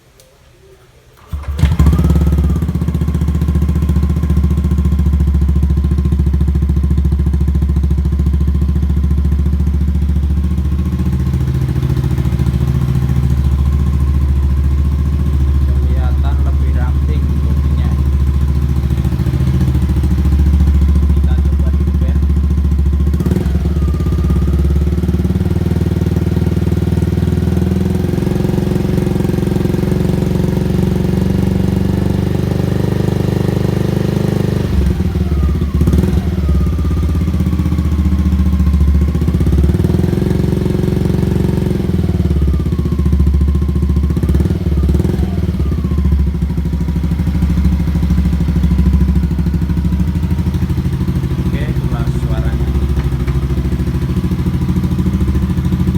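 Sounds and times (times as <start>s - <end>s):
engine revving: 1.2s - 55.9s
scooter engine idling: 1.2s - 55.9s.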